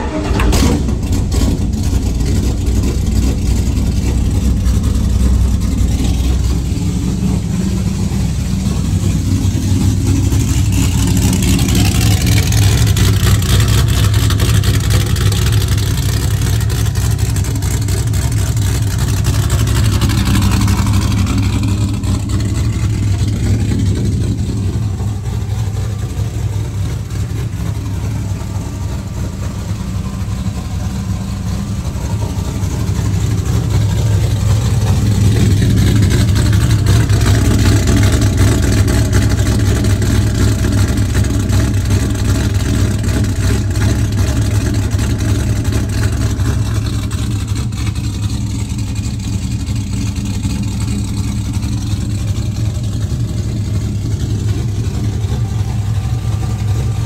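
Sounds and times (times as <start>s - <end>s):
car engine running loud: 0.0s - 57.0s.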